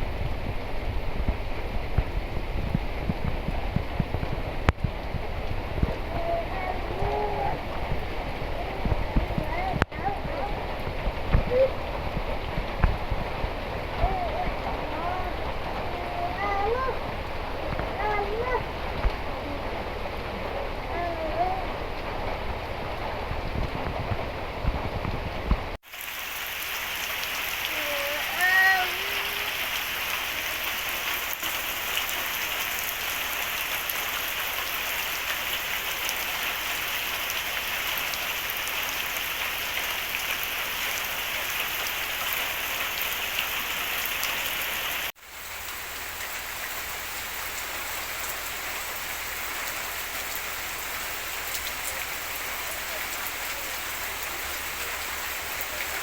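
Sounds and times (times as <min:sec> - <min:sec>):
steady rain hissing: 0:00.0 - 0:56.0.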